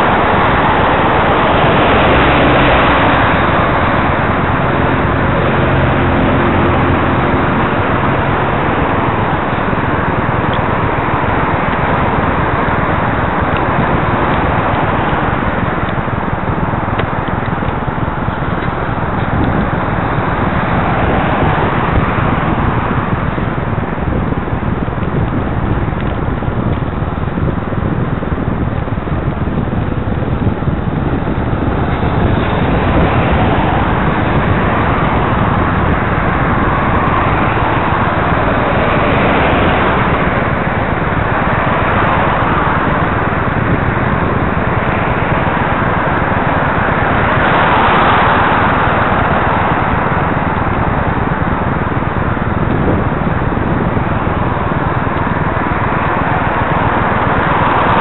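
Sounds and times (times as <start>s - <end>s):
low rumble: 0.0s - 58.0s
vehicles passing on wet road: 0.0s - 58.0s.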